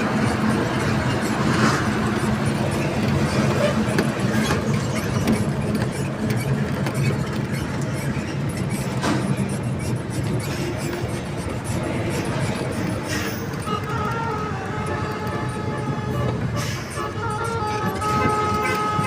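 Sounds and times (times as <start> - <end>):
diesel truck engines droning: 0.0 - 19.0.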